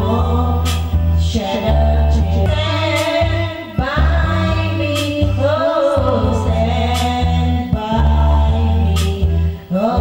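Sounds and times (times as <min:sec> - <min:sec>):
amplified backing music: 0:00.0 - 0:10.0
woman singing through microphone: 0:00.0 - 0:10.0.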